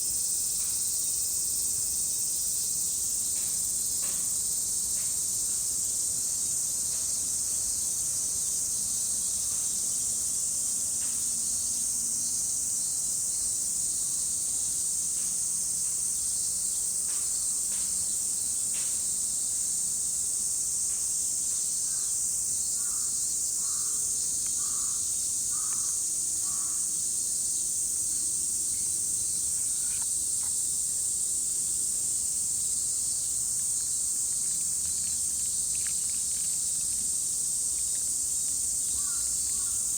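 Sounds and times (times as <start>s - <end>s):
cicadas shrilling: 0.0s - 39.9s.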